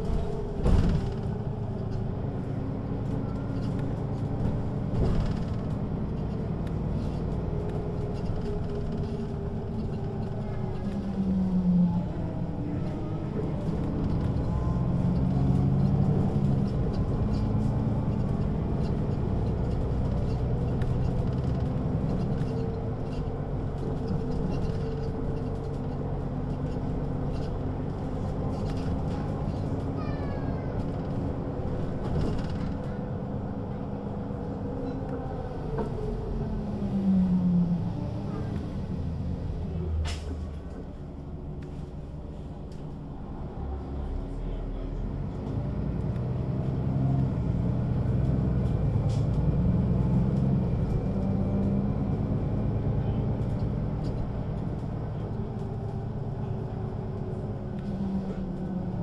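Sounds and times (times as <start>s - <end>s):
bus engine humming: 0.0s - 59.0s.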